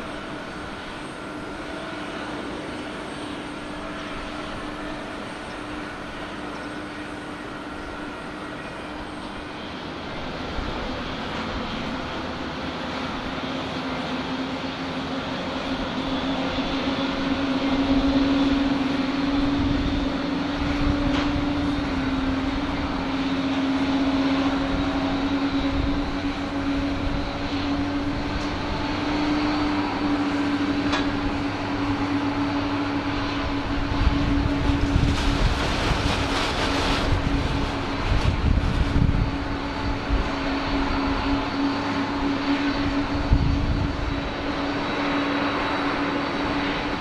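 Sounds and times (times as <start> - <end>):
jet engines droning: 0.0 - 47.0.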